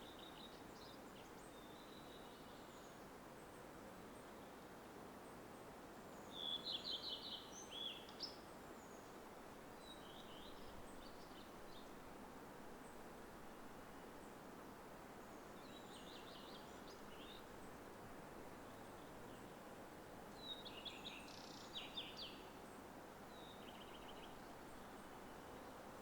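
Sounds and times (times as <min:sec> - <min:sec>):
faint woods background hiss: 0:00.0 - 0:26.0
songbirds chirping: 0:00.0 - 0:26.0.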